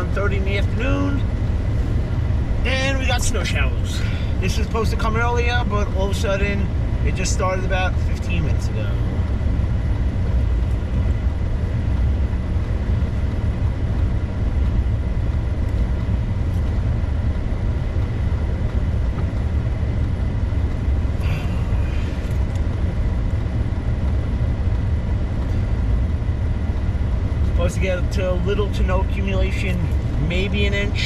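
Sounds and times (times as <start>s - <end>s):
vehicle engine and tyre rumble: 0.0s - 31.0s.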